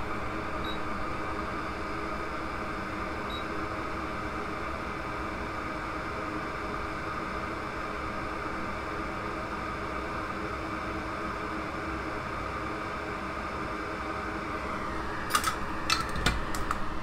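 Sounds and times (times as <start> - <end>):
small electric fan whirring: 0.0 - 17.0.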